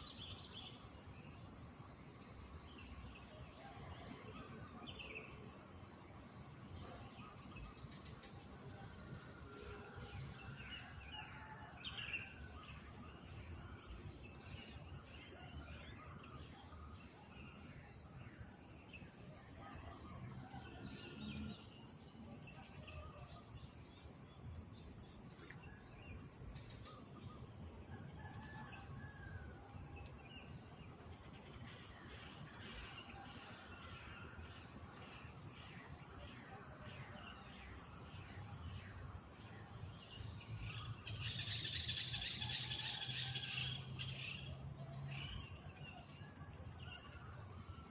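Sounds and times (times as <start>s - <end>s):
high drone of insects: 0.0s - 47.9s.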